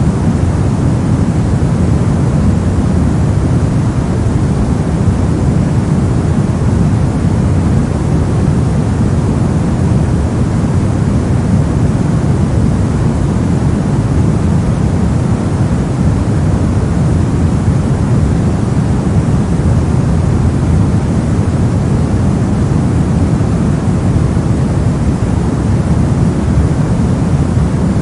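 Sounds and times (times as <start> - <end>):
brown noise rumbling hiss: 0.0 - 28.0.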